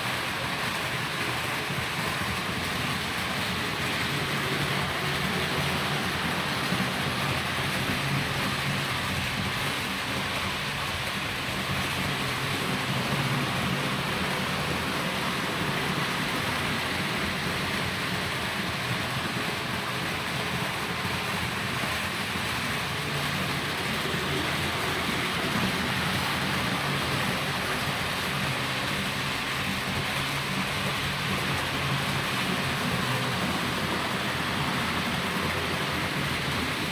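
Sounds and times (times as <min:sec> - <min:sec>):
low motor hum: 0:00.0 - 0:36.9
model train wheels hissing on rails: 0:00.0 - 0:36.9.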